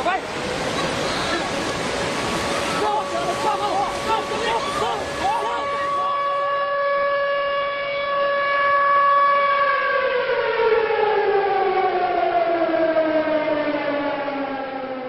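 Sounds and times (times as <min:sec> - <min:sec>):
siren winding down: 0:02.4 - 0:15.0.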